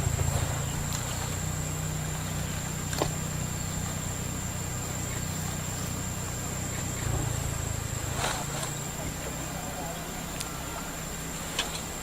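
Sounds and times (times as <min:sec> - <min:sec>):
faint high whine: 0:00.0 - 0:12.0
low engine hum: 0:00.0 - 0:12.0.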